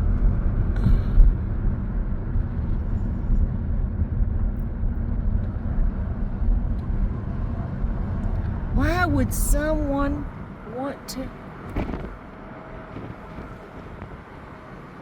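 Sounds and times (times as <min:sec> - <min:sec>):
car cabin engine and tyre rumble: 0:00.0 - 0:15.0.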